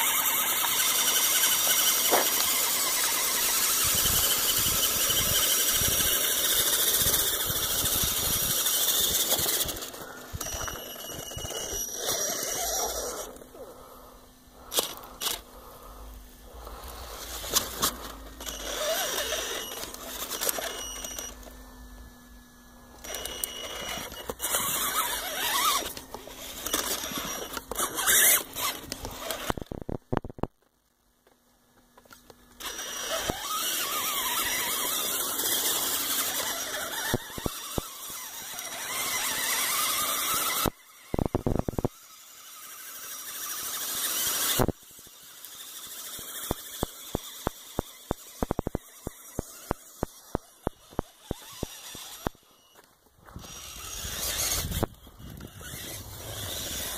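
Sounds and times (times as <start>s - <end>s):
rc truck electric motors whining: 0.0s - 56.9s.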